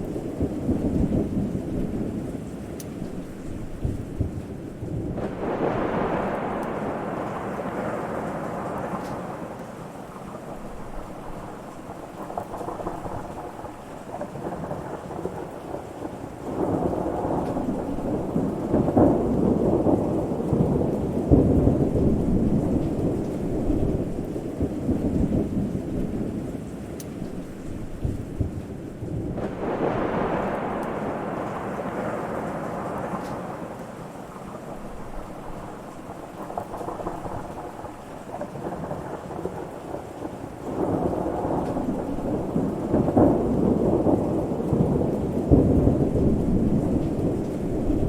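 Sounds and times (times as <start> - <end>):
rain: 0.0 - 48.0
thunder rumbling: 0.0 - 48.0.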